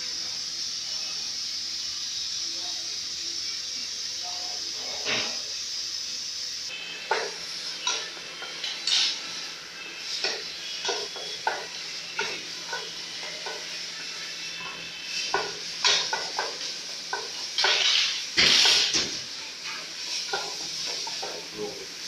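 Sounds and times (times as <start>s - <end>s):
food sizzling: 0.0s - 22.0s.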